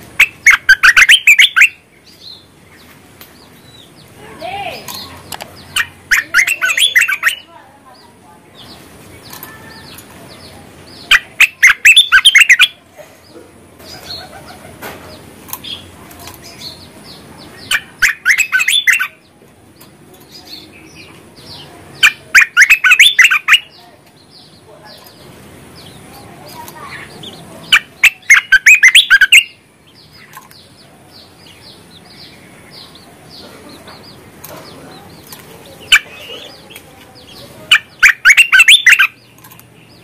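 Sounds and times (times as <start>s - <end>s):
soft bird chirps: 0.2s - 40.0s.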